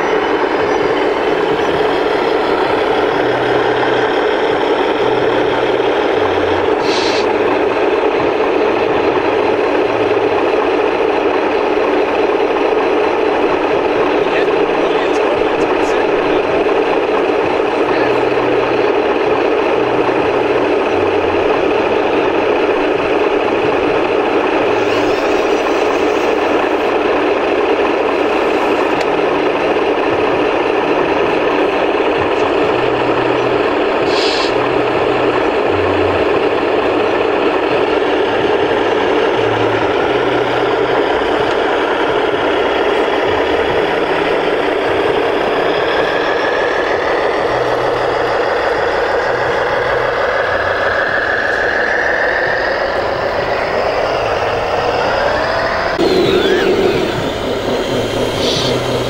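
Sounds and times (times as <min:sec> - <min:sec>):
model truck hydraulic pump and engine: 0:00.0 - 0:59.0.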